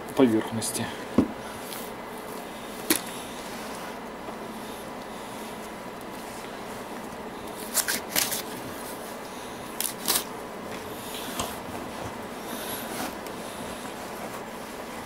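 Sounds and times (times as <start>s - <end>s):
gloved hands rustling: 1.4s - 15.0s.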